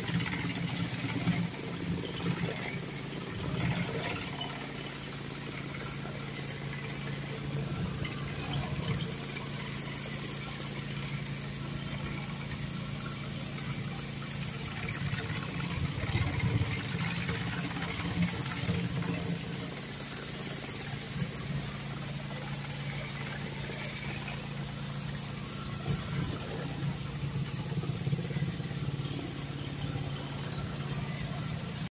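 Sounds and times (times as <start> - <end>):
pressure washer humming: 0.0 - 31.9
water spraying on concrete: 0.0 - 31.9.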